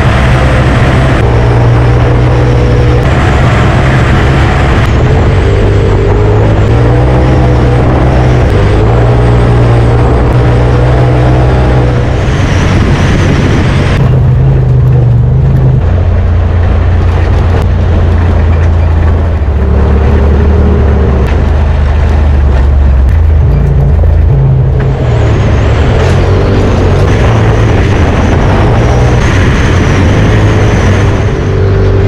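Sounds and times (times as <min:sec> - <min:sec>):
engine running hard: 0:00.0 - 0:32.0
wind and chassis noise: 0:00.0 - 0:32.0.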